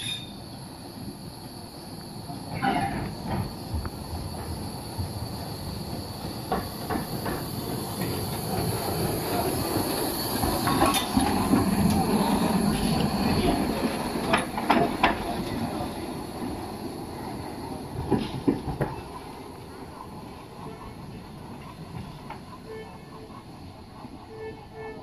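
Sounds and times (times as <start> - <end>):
locomotive rumbling past: 0.0 - 25.0
wheels clicking over rail joints: 2.4 - 25.0.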